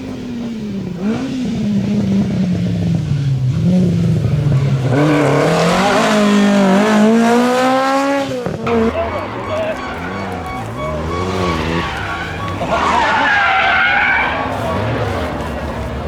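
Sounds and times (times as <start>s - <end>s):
rally car engine under load: 0.0s - 16.0s.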